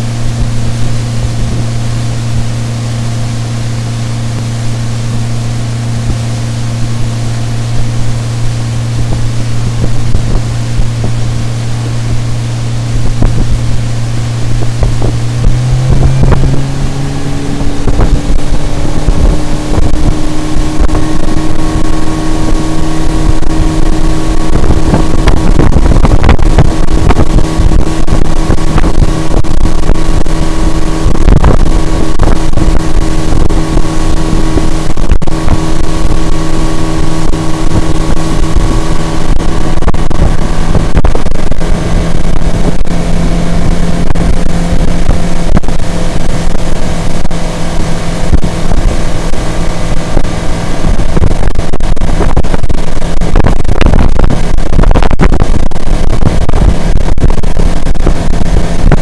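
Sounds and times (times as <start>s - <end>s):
outboard motor running at speed: 0.0s - 59.0s
water rushing past boat: 0.0s - 59.0s
wind: 0.0s - 59.0s.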